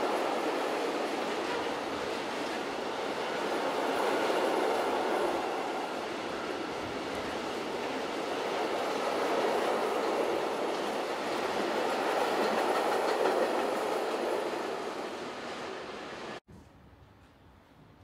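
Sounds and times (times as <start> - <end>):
train wheels rumbling on rails: 0.0 - 16.4.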